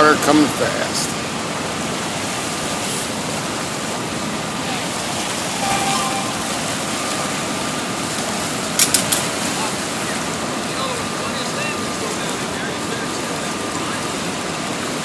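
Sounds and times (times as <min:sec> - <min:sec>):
river rushing through rapids: 0:01.1 - 0:15.0.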